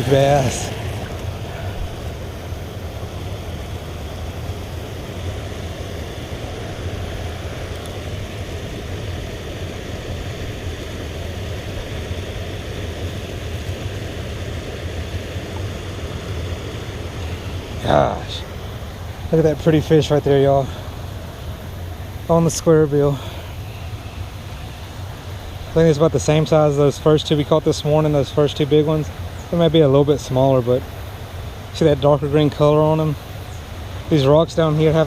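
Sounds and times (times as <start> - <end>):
water rushing over waterfall: 0.0 - 35.0.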